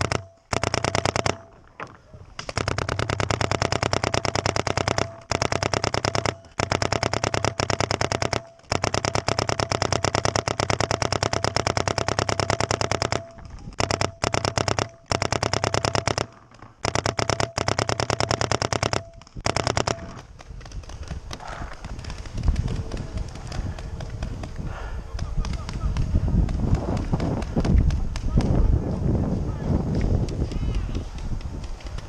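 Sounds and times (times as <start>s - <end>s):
paintball marker rapid shots: 0.0s - 1.6s, 2.3s - 28.7s, 29.8s - 32.0s.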